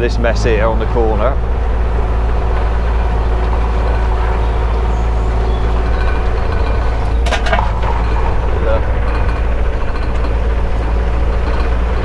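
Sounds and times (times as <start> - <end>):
excavator diesel engine running: 0.0 - 12.0
sharp metallic clanks: 0.7 - 12.0.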